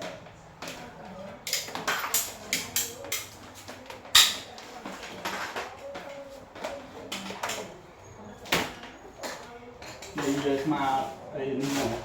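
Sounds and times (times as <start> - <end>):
knocks and clatter of tools: 0.0 - 7.8, 8.4 - 10.9.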